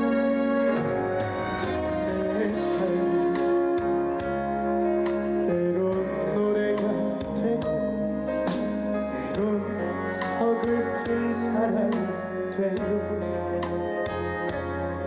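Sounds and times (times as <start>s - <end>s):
sustained melody notes: 0.0s - 15.0s.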